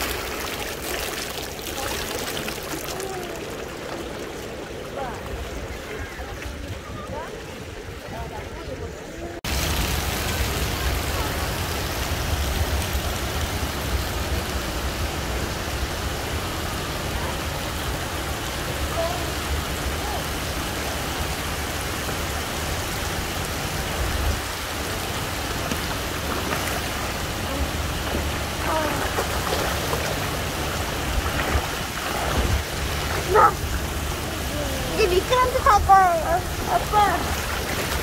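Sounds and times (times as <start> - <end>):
fountain water cascading: 0.0 - 38.0.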